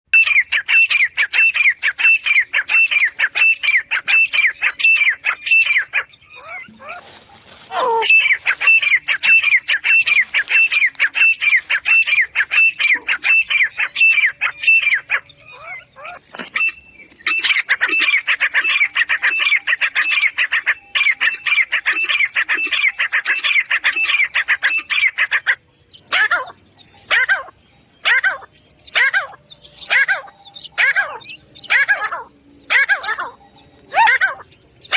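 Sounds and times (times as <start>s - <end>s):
francolin calling: 0.2s - 34.9s.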